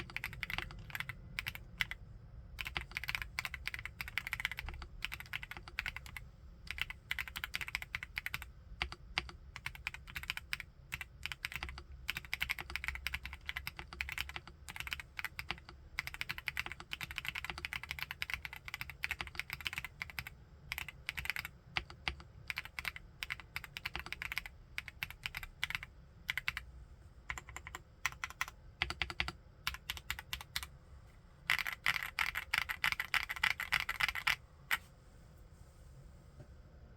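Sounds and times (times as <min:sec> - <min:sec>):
mechanical keyboard typing: 0:00.0 - 0:02.0, 0:02.6 - 0:26.6, 0:27.3 - 0:30.7, 0:31.4 - 0:34.4.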